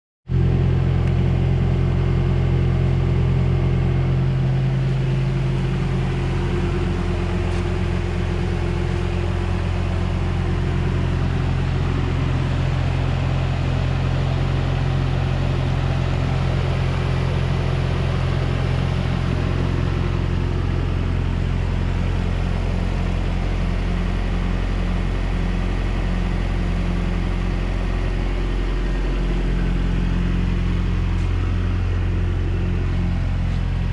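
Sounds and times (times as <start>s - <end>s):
pickup truck engine idling: 0.3s - 33.9s.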